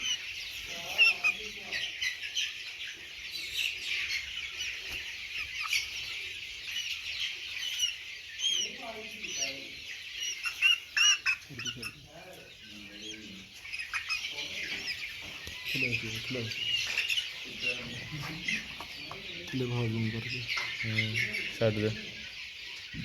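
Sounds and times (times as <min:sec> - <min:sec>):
chicks peeping and chirping: 0:00.0 - 0:23.0.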